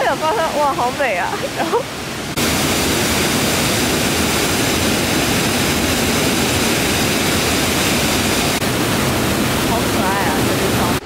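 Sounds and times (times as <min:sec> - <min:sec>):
water rushing over a weir: 0:00.0 - 0:11.0.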